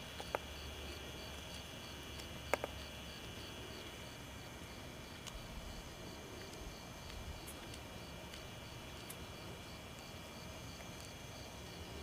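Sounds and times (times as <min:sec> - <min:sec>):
faint insect chirping: 0:00.0 - 0:12.0
steady high buzz: 0:00.0 - 0:12.0.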